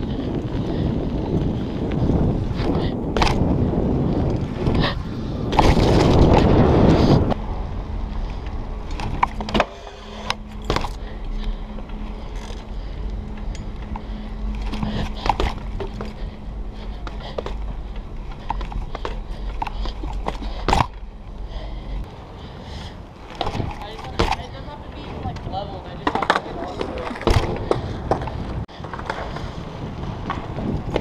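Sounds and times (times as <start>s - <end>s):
bike clicks and knocks: 0.0s - 7.4s, 8.1s - 31.0s
bike tyres rolling on concrete: 0.0s - 31.0s
wind buffeting camera: 0.0s - 31.0s.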